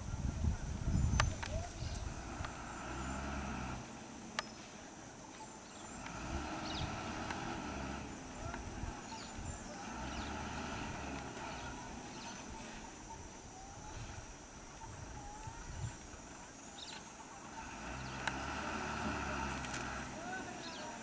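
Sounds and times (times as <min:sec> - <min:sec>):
faint voices: 0:00.0 - 0:21.0
bus diesel engine idling: 0:01.6 - 0:21.0.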